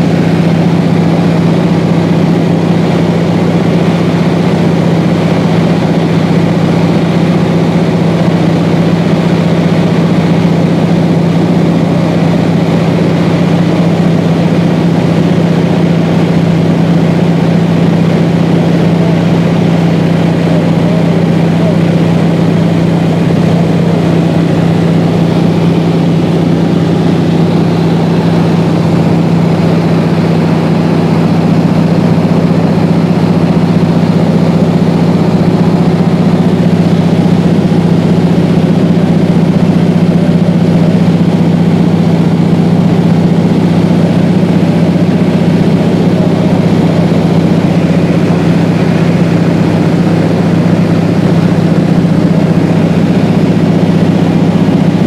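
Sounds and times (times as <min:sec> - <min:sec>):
aircraft engine drone in cabin: 0:00.0 - 0:55.0.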